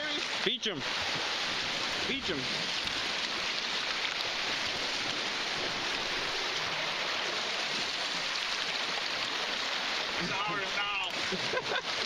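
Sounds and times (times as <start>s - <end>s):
lake water washing over rocks: 0.0s - 12.0s.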